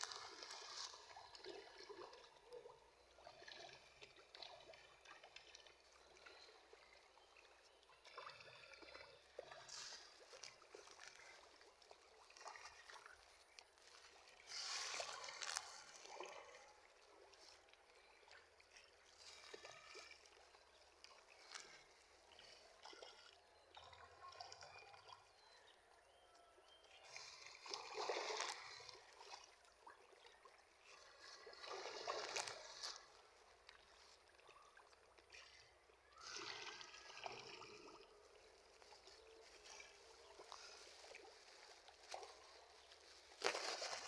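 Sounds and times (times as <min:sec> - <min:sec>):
water splashing: 0:00.0 - 0:06.8, 0:08.0 - 0:23.4, 0:27.1 - 0:44.0
water trickling: 0:00.0 - 0:25.3, 0:27.4 - 0:44.0.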